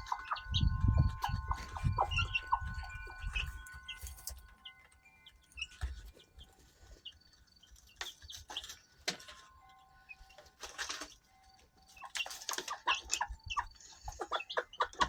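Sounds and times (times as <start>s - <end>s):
faint ringing tones: 0.0s - 14.3s
chickens clucking: 0.0s - 15.0s.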